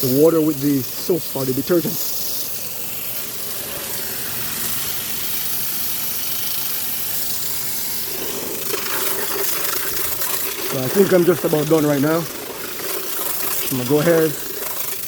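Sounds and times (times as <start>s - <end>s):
hose spray hissing on metal fins: 0.0s - 15.0s.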